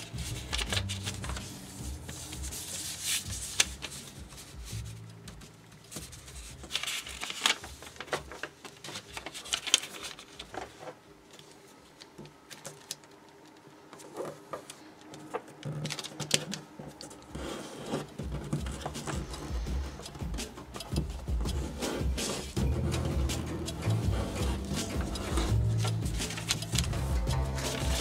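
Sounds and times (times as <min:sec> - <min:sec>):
paper being folded and creased: 0:00.0 - 0:28.0.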